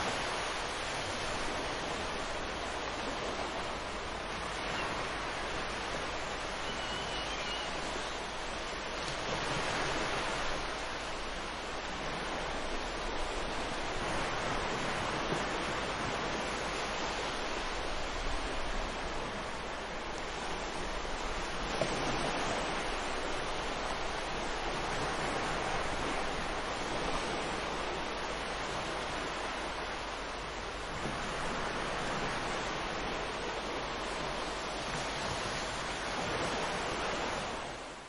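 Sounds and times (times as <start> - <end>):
ocean waves washing: 0.0 - 38.0.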